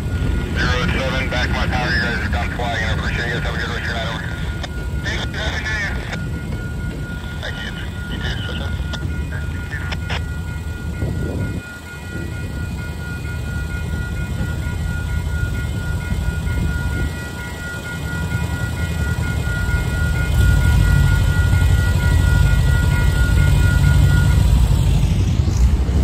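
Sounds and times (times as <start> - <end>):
railroad crossing bell ringing: 0.0 - 26.0.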